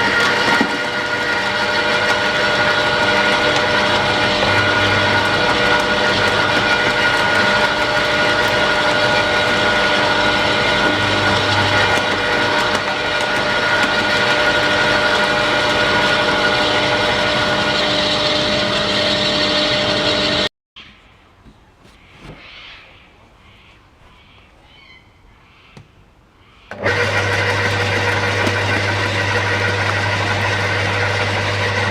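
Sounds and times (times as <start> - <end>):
chipper shredder motor whining: 0.0 - 20.5, 26.7 - 31.9.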